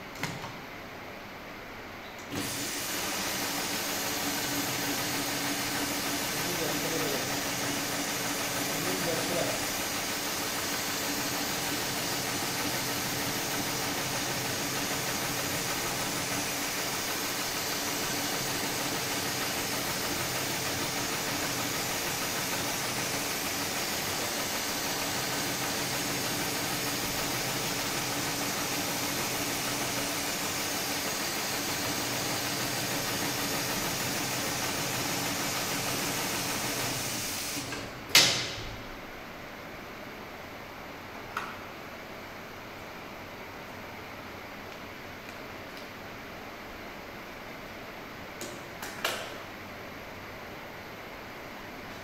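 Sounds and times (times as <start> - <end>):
machine hum with hiss: 0.0 - 52.0.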